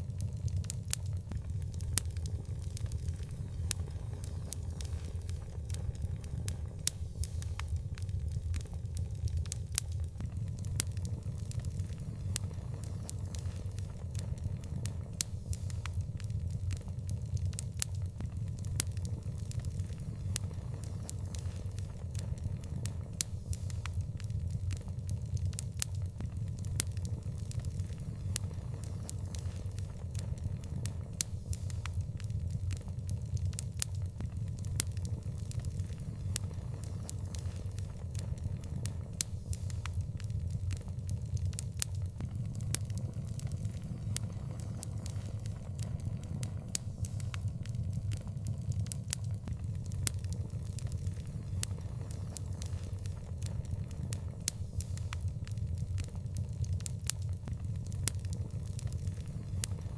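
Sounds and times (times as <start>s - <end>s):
low rumble of flame: 0.0s - 59.9s
wood fire crackling and popping: 0.0s - 59.9s.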